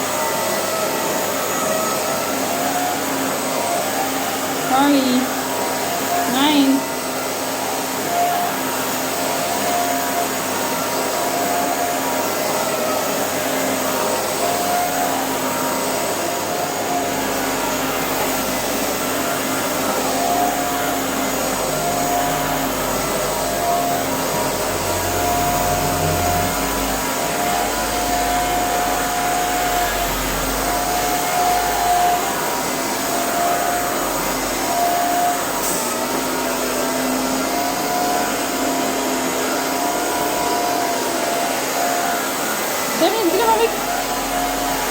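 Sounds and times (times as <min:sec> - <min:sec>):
high-pitched whine: 0:00.0 - 0:44.9
vacuum cleaner running: 0:00.0 - 0:44.9.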